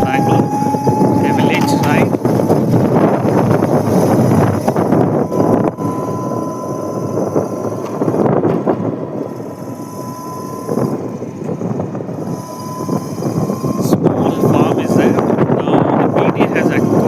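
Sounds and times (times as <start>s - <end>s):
steady engine whine: 0.0s - 17.0s
wind buffeting microphone: 0.0s - 17.0s.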